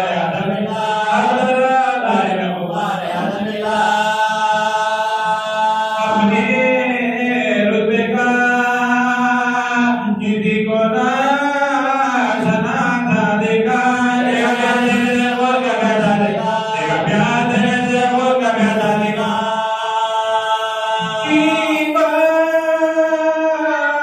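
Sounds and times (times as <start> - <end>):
men chanting into microphone: 0.0 - 24.0.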